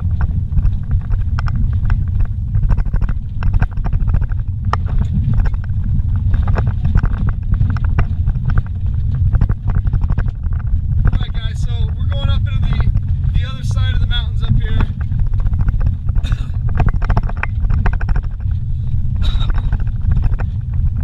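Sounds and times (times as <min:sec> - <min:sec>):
knocks and rattles in cabin: 0:00.0 - 0:21.0
vehicle rumbling on dirt road: 0:00.0 - 0:21.0.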